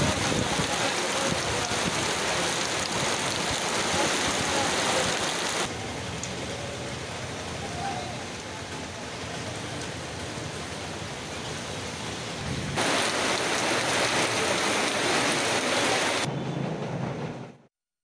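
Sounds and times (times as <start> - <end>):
heavy rain pouring: 0.0 - 16.3
rain drumming on metal roof: 0.0 - 16.3.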